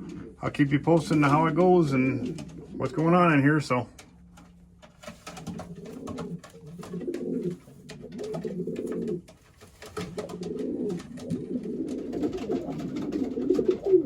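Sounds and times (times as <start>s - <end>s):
pigeons cooing: 0.0s - 3.7s, 5.0s - 14.0s.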